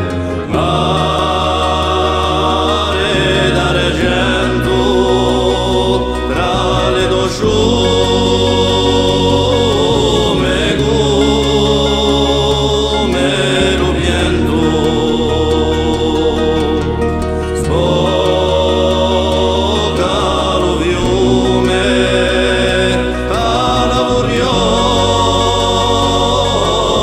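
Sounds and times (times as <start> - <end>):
steady low bass: 0.0 - 27.0
wavering sung melody: 0.0 - 27.0.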